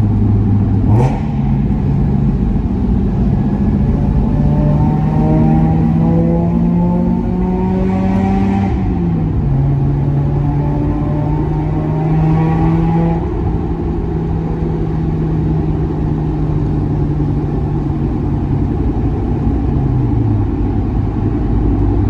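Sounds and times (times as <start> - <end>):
rotary engine exhaust note: 0.0 - 21.9.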